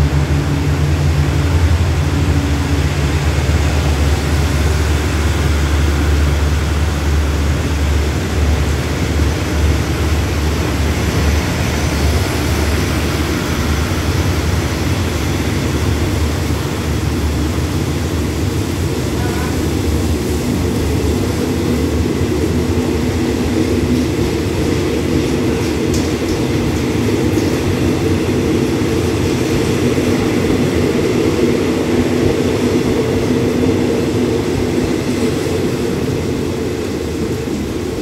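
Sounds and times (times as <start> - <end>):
falling rain: 0.0 - 33.0
train wheels rumbling on rail: 0.0 - 38.0.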